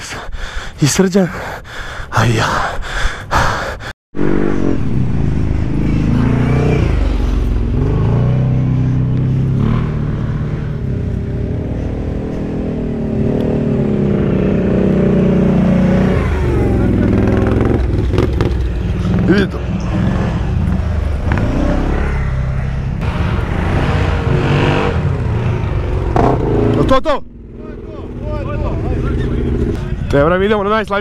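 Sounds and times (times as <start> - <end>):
quad bike engine revving: 4.2 - 30.1.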